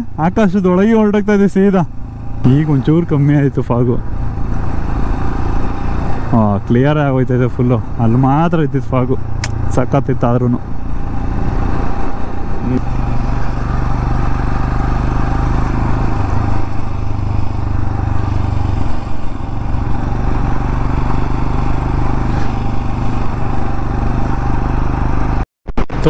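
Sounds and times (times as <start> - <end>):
motorcycle engine droning: 0.0 - 26.0
road and wind noise: 0.0 - 26.0.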